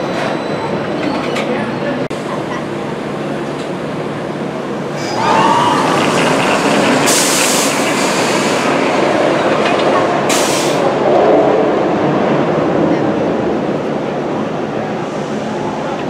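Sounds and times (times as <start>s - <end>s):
roller coaster train rushing rumble: 0.0s - 16.0s.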